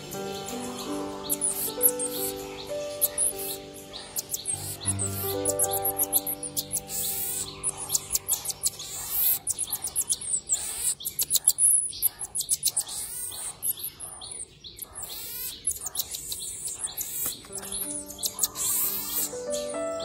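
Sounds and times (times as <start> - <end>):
baby monkey high-pitched chirps: 1.2 - 20.0.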